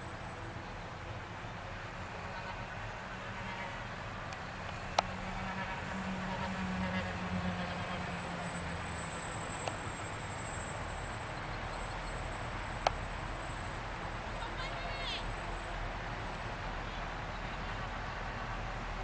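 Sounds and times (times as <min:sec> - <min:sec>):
turboprop aircraft drone overhead: 0:00.0 - 0:19.0.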